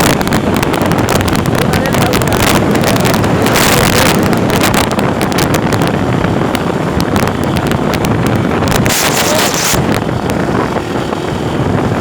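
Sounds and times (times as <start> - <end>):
moving vehicle running noise: 0.0 - 12.0
wind buffeting microphone: 0.0 - 12.0.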